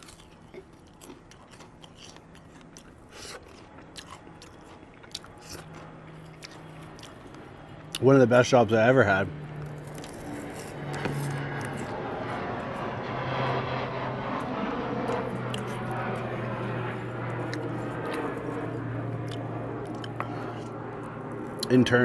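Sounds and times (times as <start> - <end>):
chewing fries: 0.0 - 8.4, 9.4 - 13.5, 15.0 - 21.9
airplane rumbling overhead: 0.0 - 22.0.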